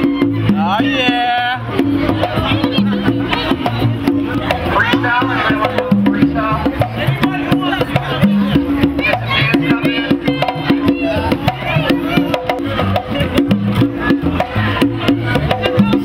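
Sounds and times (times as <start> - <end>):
lively dance music: 0.0 - 16.0
upright bass line: 0.0 - 16.0
voices calling: 0.0 - 16.0.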